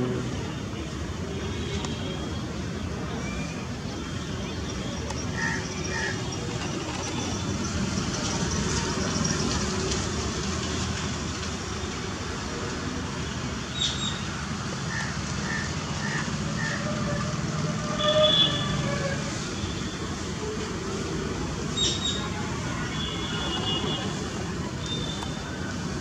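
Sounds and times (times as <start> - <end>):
distant traffic hum: 0.0 - 26.0.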